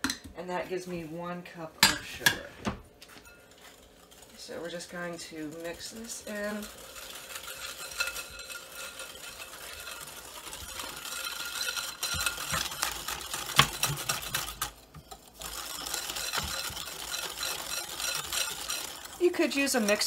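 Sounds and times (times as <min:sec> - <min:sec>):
whisk clicking against glass bowl: 0:03.3 - 0:20.0.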